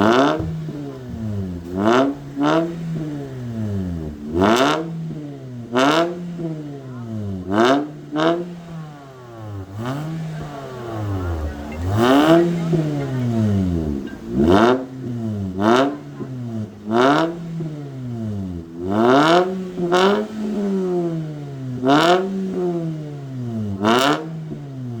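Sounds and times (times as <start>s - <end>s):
car engine revving: 0.0s - 25.0s
exhaust bangs: 0.0s - 25.0s.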